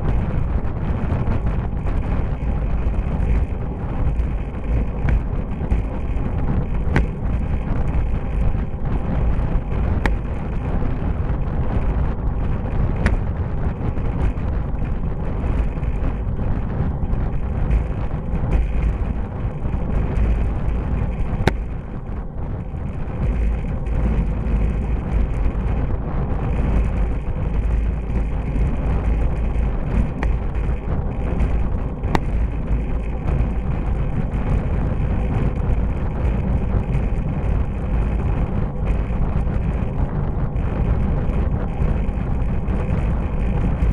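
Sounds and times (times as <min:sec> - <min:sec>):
road noise: 0:00.0 - 0:43.9
wind buffeting microphone: 0:00.0 - 0:43.9.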